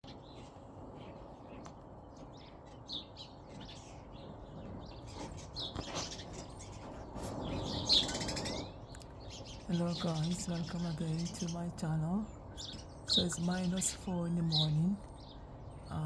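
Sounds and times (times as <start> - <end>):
birds chirping: 0.0 - 16.0
low background noise: 0.0 - 16.0.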